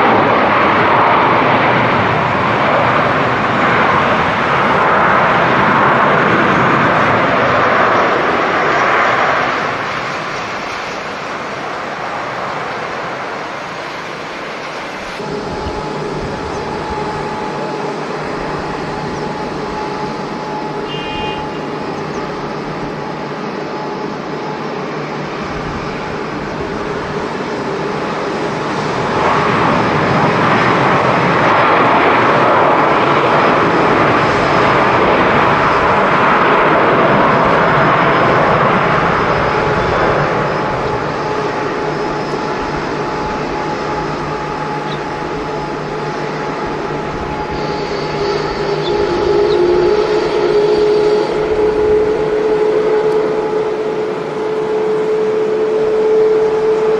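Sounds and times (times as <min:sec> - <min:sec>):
jet engines whining and rushing: 0:00.0 - 0:56.9.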